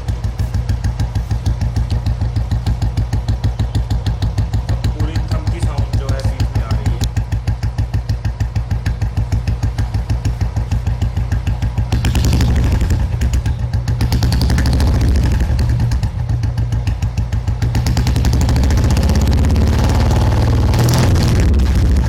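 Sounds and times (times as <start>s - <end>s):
motorcycle engine thumping: 0.0s - 22.0s.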